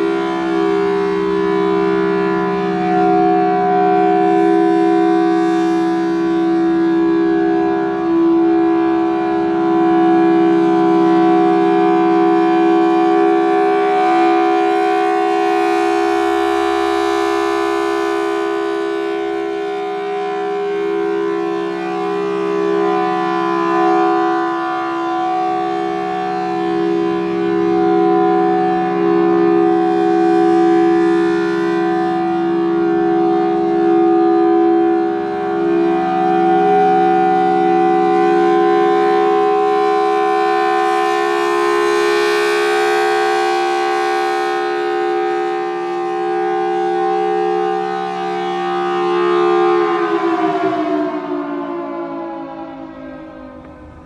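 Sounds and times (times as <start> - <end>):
rotating siren wailing: 0.0 - 54.0.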